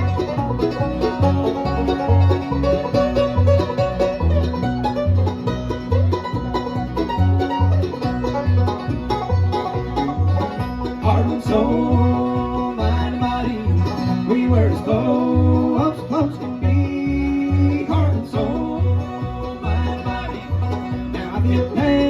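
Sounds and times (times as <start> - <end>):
banjo picking: 0.0 - 22.0
bass beat: 0.0 - 22.0
guitar picking: 0.0 - 22.0.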